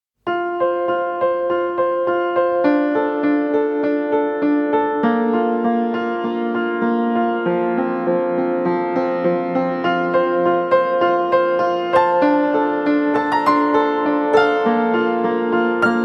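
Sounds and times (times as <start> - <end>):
gentle piano melody: 0.2 - 16.0.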